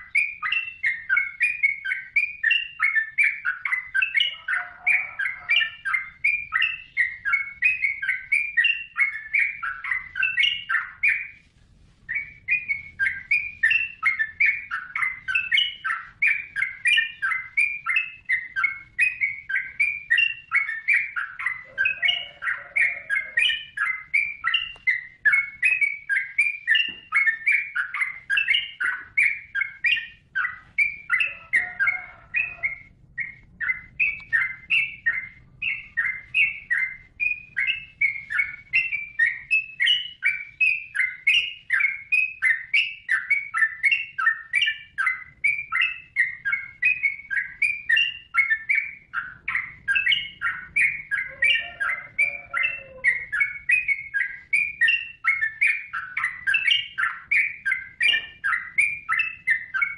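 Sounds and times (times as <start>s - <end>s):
bird singing bubbly chirps: 0.0s - 11.4s, 12.1s - 59.9s.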